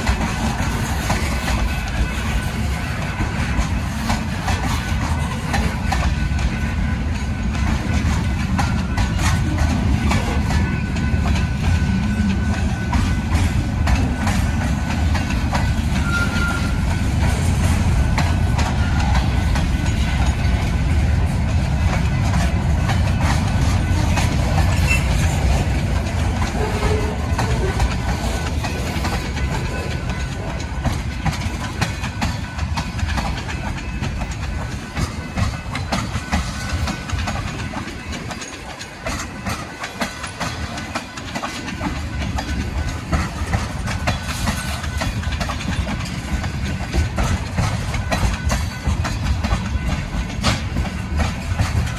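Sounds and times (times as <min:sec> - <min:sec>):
train rumbling past: 0:00.0 - 0:51.9
wheels clicking over rail joints: 0:00.0 - 0:51.9.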